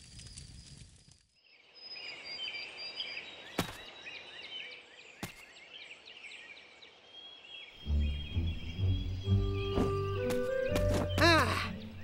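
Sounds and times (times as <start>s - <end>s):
small birds chirping: 1.4s - 12.0s.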